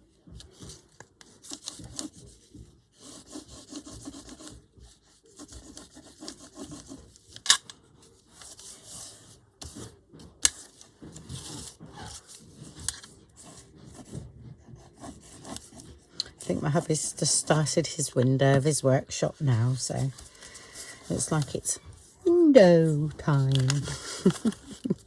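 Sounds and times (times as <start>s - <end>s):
rubbing and scraping strokes: 0.4s - 25.0s.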